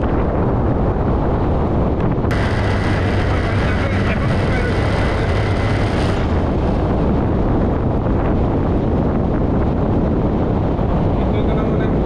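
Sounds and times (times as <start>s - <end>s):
motorcycle engine drone: 0.0s - 12.0s
road noise: 0.0s - 12.0s
wind buffeting microphone: 0.0s - 12.0s.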